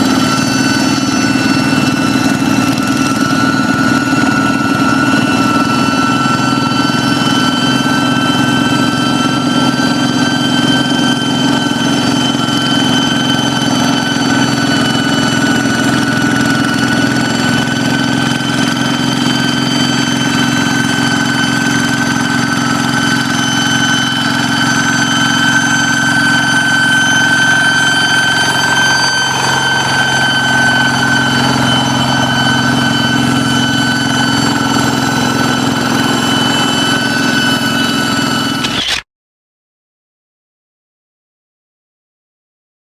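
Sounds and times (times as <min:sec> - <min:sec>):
diesel tractor engine running: 0:00.0 - 0:39.0
high whistling whine: 0:00.0 - 0:39.1.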